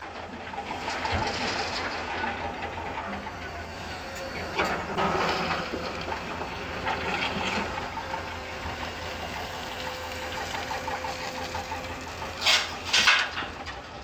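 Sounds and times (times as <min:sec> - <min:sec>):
excavator diesel engine running: 0:00.0 - 0:14.0
thin steady whine: 0:00.6 - 0:13.8.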